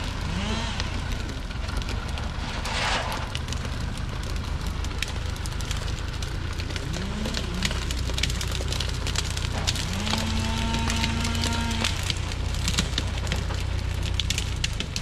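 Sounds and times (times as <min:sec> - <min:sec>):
branches crackling under tyres: 0:00.0 - 0:15.0
truck diesel engine running: 0:00.0 - 0:15.0.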